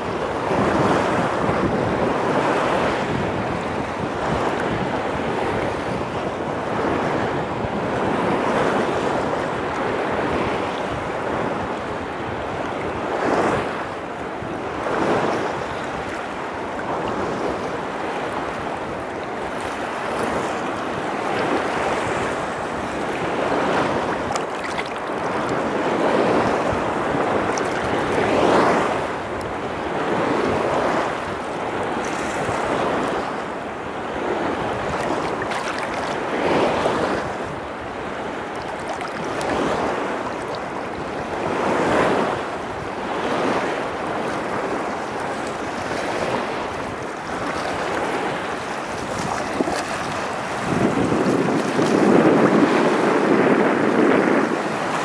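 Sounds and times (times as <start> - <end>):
small waves slapping in shallow water: 0.0 - 55.0
wind buffeting microphone: 0.0 - 55.0.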